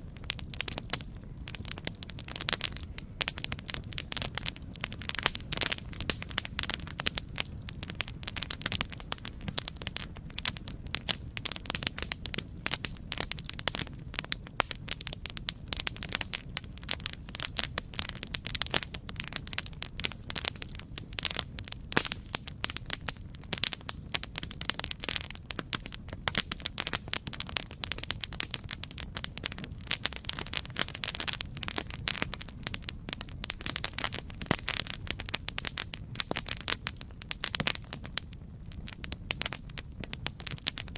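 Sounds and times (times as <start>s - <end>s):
campfire pops and snaps: 0.0s - 40.9s
low rumble of flames: 0.0s - 40.9s.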